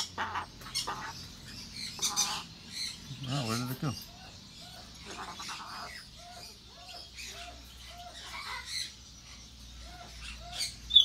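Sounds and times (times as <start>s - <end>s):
parrot clucking calls: 0.0s - 11.0s.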